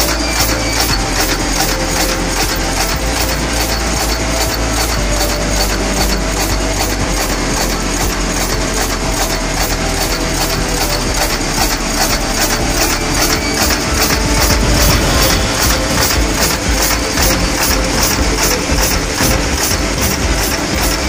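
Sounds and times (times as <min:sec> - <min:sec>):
machine hum: 0:00.0 - 0:21.0
machine press stroking: 0:00.0 - 0:21.0
metallic clatter: 0:00.0 - 0:21.0.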